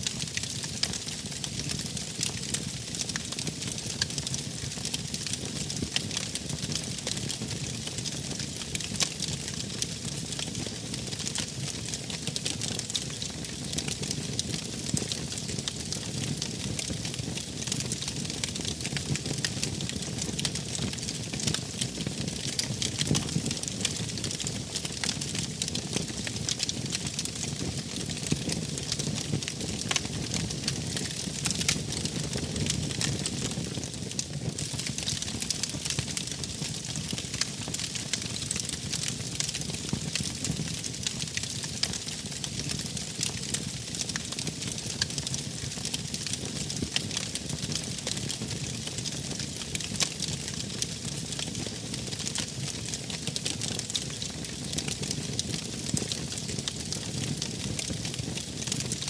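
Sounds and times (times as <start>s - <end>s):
fire pops and crackles: 0.0s - 59.0s
wood fire burning: 0.0s - 59.0s.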